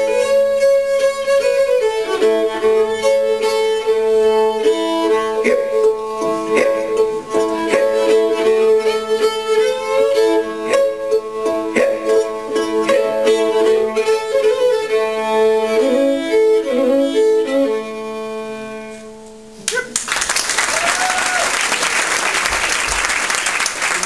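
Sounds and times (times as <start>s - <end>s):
solo fiddle tune: 0.0s - 19.9s.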